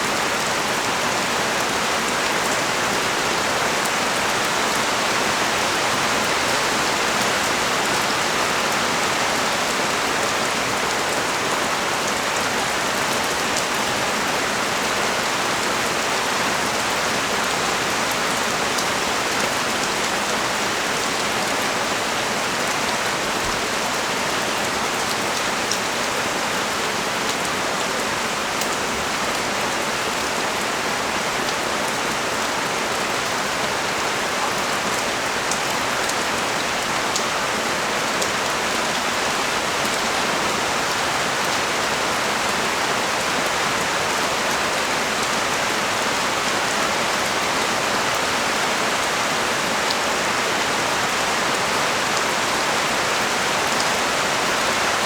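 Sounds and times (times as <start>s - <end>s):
heavy rain on street: 0.0s - 55.0s.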